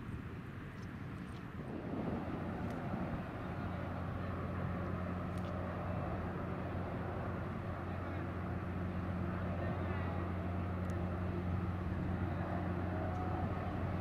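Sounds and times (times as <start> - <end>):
rushing outdoor background: 0.0 - 14.0
ship machinery humming: 1.4 - 14.0.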